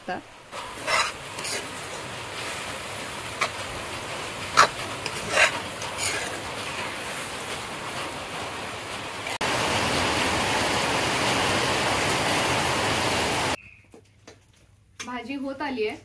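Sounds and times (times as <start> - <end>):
vegetables sizzling in a pan: 0.1 - 13.6
heavy rain: 0.3 - 13.6.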